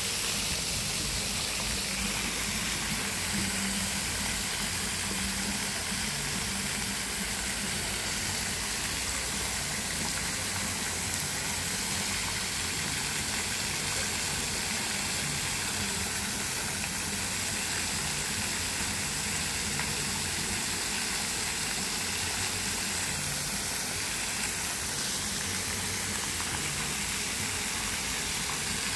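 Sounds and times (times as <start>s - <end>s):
fountain jets splashing: 0.0s - 28.9s.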